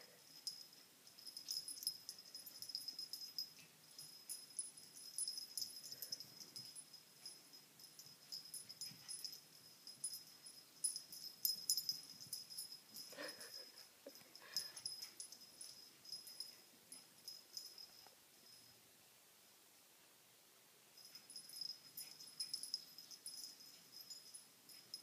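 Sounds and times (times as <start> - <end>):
light jingling and clicking: 0.0 - 18.7, 21.0 - 25.0.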